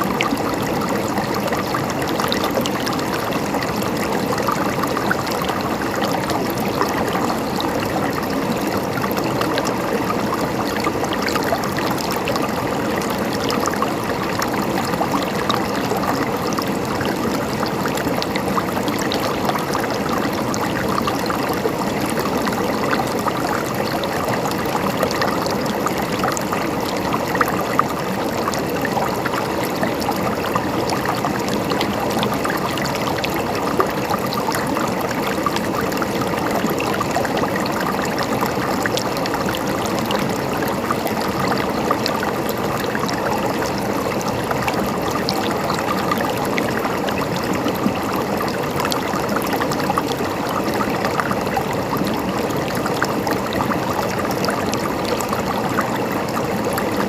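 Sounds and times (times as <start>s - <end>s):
river water babbling over stones: 0.0s - 57.0s.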